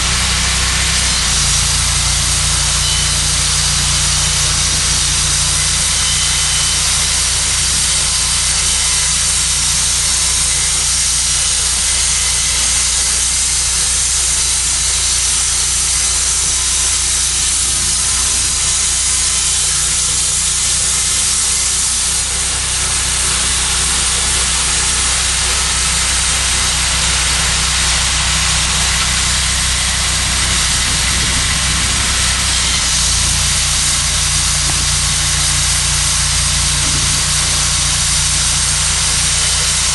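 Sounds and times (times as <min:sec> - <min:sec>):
loud high hiss: 0:00.0 - 0:39.9
sawmill engine drone: 0:00.0 - 0:39.9.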